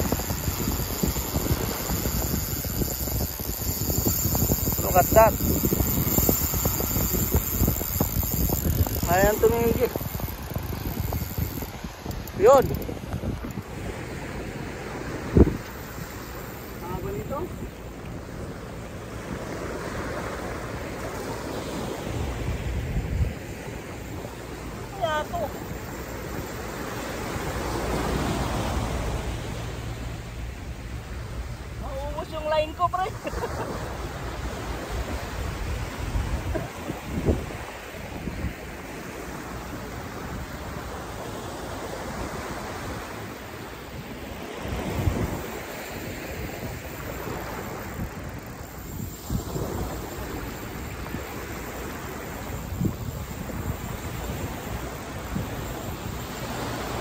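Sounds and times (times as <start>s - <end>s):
surf waves washing up beach: 0.0s - 57.0s
wind buffeting microphone: 0.0s - 57.0s.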